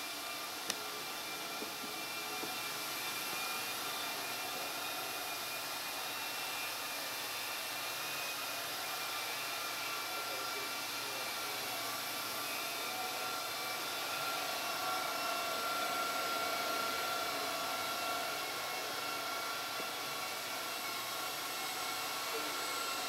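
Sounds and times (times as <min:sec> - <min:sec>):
machine whir and hiss: 0:00.0 - 0:23.0.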